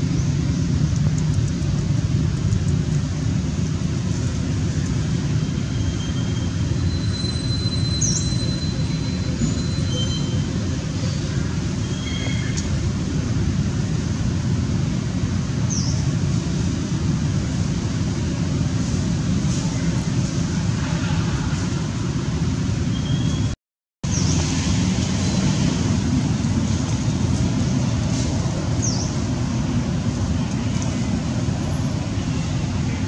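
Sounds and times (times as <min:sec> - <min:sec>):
low rumbling background noise: 0:00.0 - 0:33.0.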